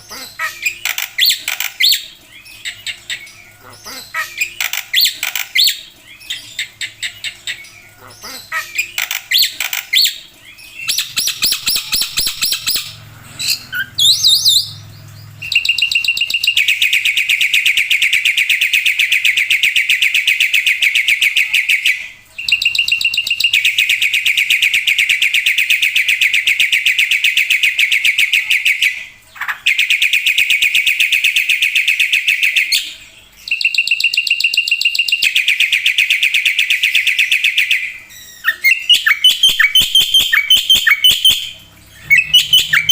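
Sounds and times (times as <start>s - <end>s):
starling singing with trills: 0.0s - 42.9s.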